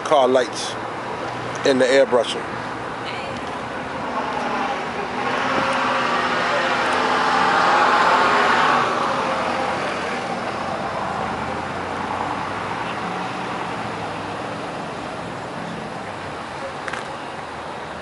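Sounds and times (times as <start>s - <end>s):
vehicle passing: 0.6s - 17.0s.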